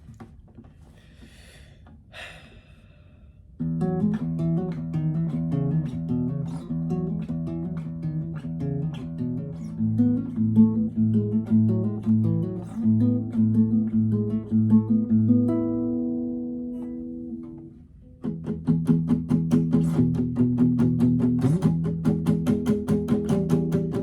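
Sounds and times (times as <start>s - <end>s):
acoustic guitar playing: 3.6s - 24.0s.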